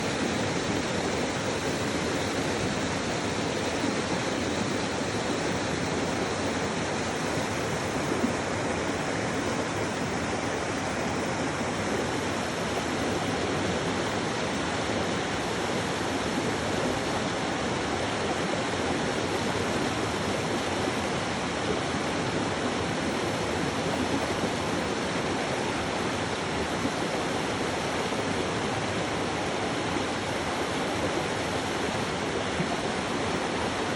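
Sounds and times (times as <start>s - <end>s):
rushing water: 0.0s - 33.9s.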